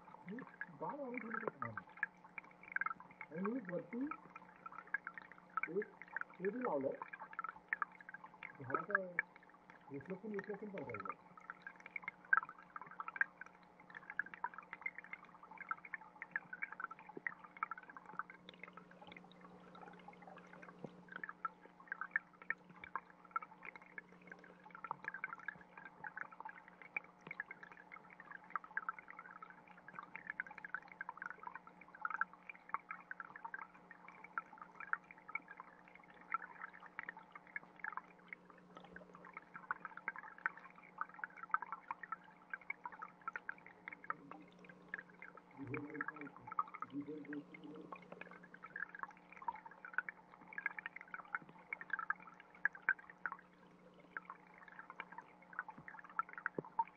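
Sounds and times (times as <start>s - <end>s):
underwater stream crackles: 0.0s - 56.9s.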